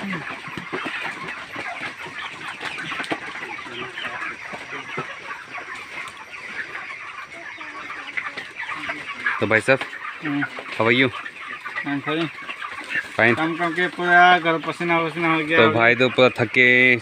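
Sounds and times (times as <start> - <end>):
chickens clucking and chirping: 0.0 - 17.0.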